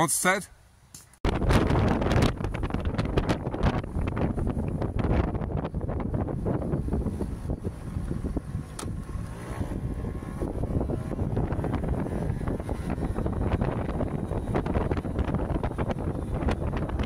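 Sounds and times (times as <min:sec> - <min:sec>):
wind buffeting microphone: 0:01.2 - 0:17.0.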